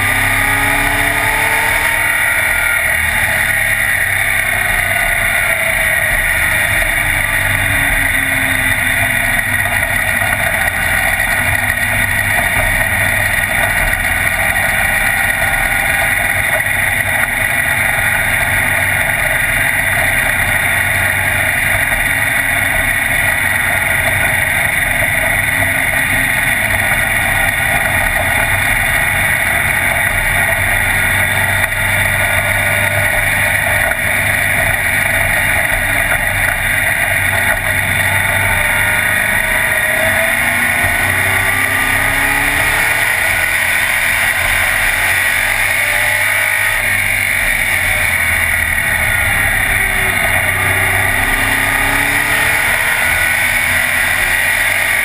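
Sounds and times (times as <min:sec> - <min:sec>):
race car engine drone: 0:00.0 - 0:55.0
wind and road noise: 0:00.0 - 0:55.0.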